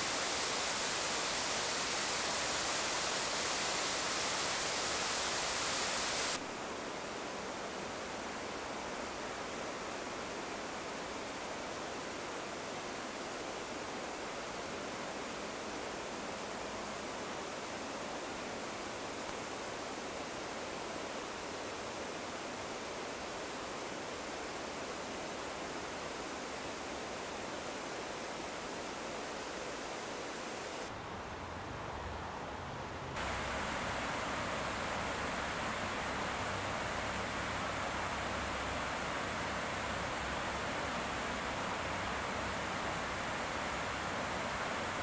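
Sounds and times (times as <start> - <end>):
river rushing: 0.0 - 45.0.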